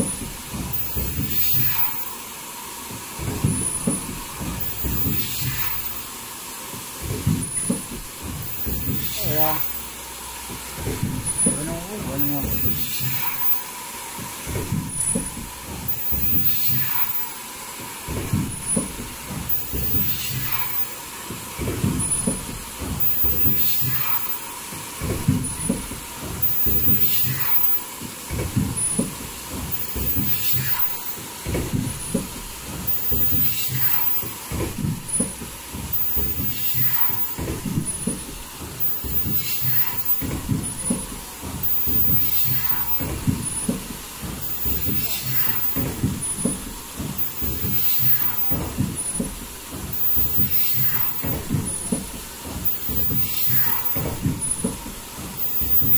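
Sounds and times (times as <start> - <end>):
high-pitched machine whine: 0.0 - 2.5, 3.2 - 6.3, 7.4 - 13.8, 14.5 - 17.5, 18.5 - 21.1, 21.9 - 24.6, 25.4 - 27.9, 28.7 - 34.4, 35.1 - 52.0, 52.6 - 54.7, 55.3 - 55.9
burst of hiss: 0.0 - 55.9
clattering rumbling machinery: 0.0 - 55.9.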